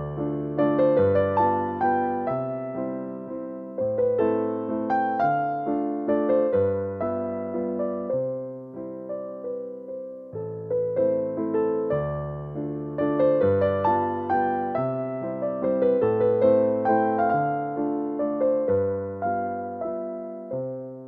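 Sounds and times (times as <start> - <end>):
gentle piano piece: 0.0 - 21.0.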